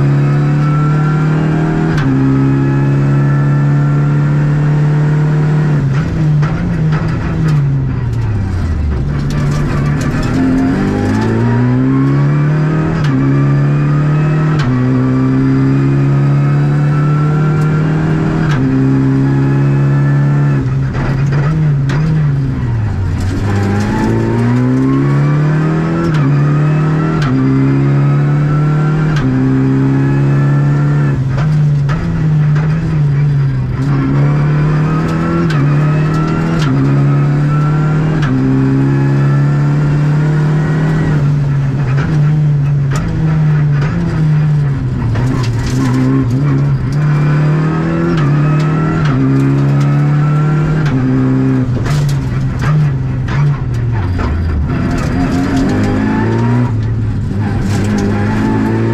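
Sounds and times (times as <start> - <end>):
car engine at high revs: 0.0 - 58.9.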